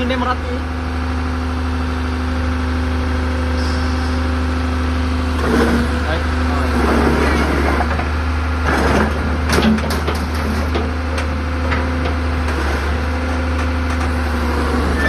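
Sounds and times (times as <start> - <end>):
diesel excavator engine idling: 0.0 - 15.0.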